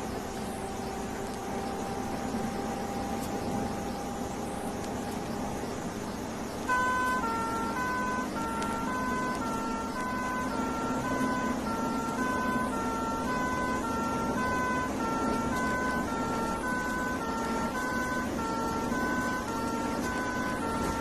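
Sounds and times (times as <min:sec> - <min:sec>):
two-tone siren horn: 0:00.0 - 0:06.0, 0:06.6 - 0:21.0
vehicle engine running: 0:00.0 - 0:21.0.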